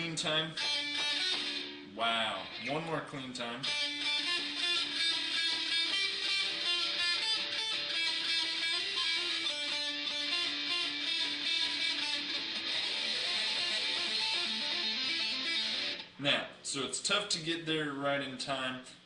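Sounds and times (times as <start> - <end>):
guitar tapping fast notes: 0.0 - 16.1.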